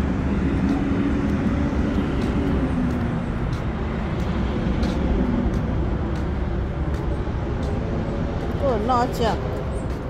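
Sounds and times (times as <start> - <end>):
low engine hum: 0.0 - 10.0
traffic rumble: 0.0 - 10.0.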